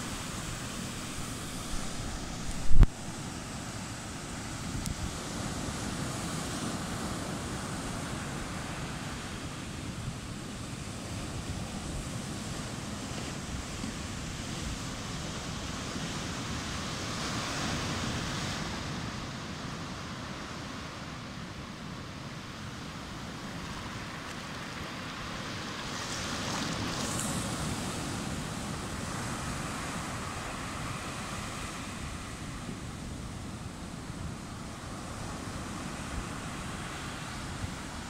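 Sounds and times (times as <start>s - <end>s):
ocean surf breaking: 0.0s - 21.0s, 22.6s - 38.0s.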